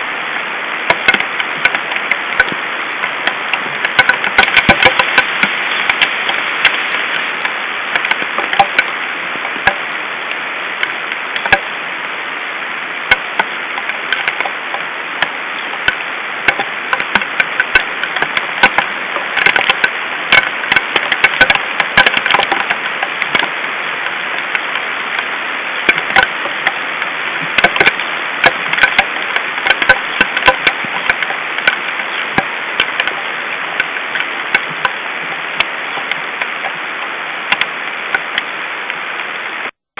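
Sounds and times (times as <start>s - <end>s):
steady hiss: 0.0s - 39.8s
hailstones striking: 0.8s - 11.8s, 12.9s - 38.5s.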